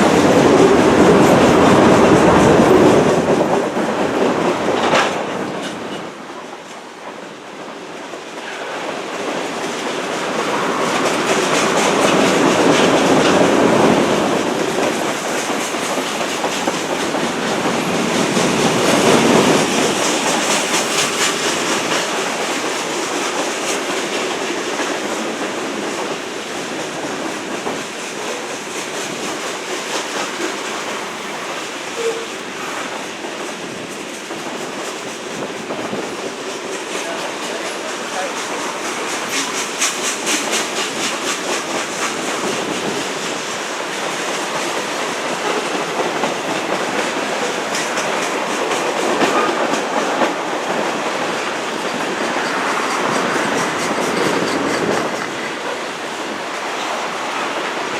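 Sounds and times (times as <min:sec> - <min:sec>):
train wheels clickety-clack: 0:00.0 - 0:57.9.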